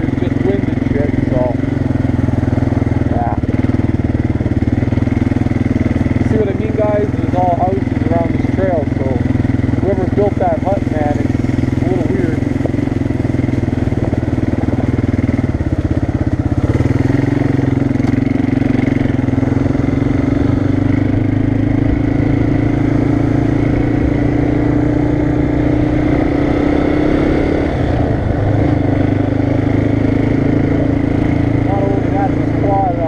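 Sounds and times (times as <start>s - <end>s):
quad engine running: 0.0s - 33.0s.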